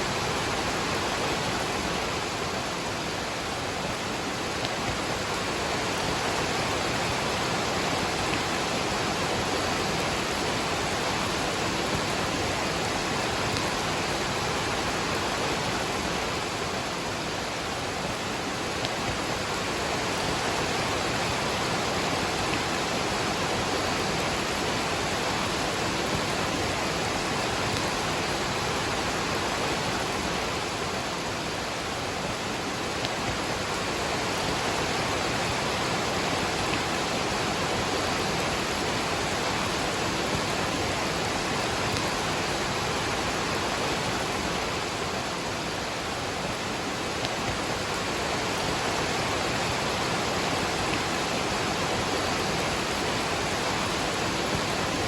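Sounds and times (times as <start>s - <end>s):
falling rain: 0.0s - 55.0s
waterfall rushing: 0.0s - 55.0s.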